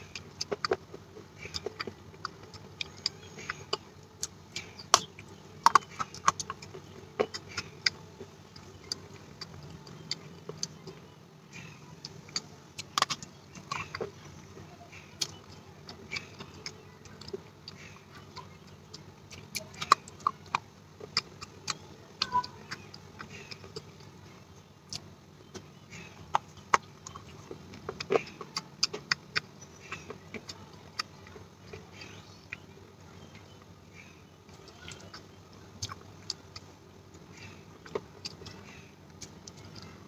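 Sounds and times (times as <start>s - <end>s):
clay being chewed: 0.0s - 40.0s.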